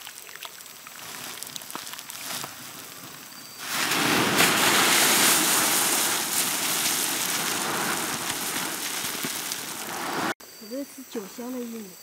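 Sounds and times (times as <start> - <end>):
grain pouring onto water: 0.0 - 10.4.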